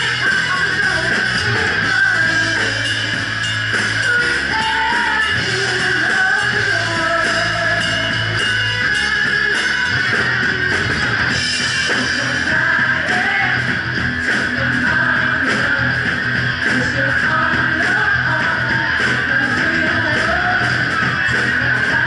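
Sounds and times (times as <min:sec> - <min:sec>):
bass guitar: 0:00.0 - 0:22.0
drum kit steady beat: 0:00.0 - 0:22.0
electric guitar: 0:00.0 - 0:22.0.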